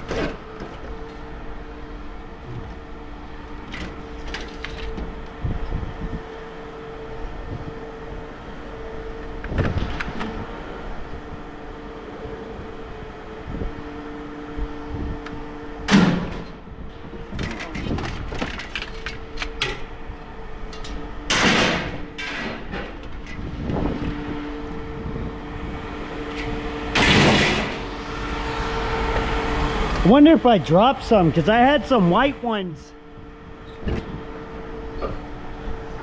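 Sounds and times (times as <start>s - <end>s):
engine hum: 0.0s - 36.0s.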